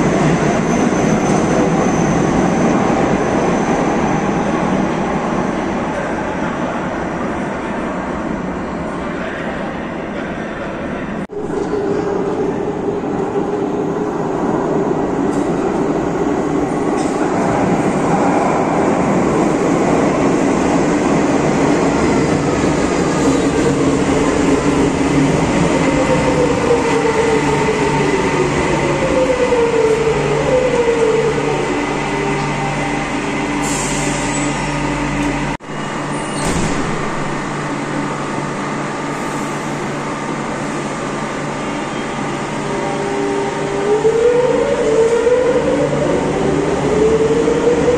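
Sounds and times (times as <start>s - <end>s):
train hum at platform: 0.0s - 47.9s.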